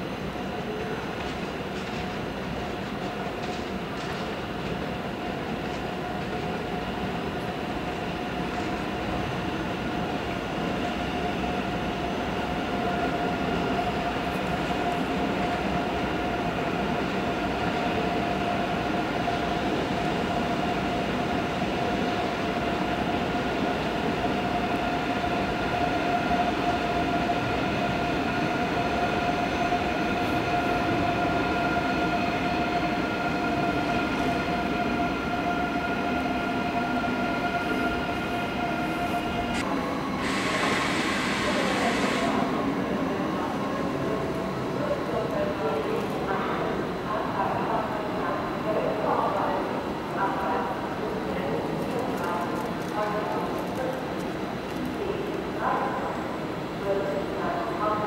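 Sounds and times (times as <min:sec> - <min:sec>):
train rolling stock rumble: 0:00.0 - 0:58.0.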